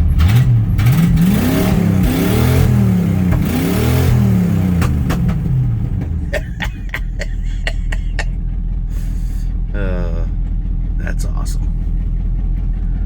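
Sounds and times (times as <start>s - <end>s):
pickup engine revving and idling: 0.0s - 13.0s.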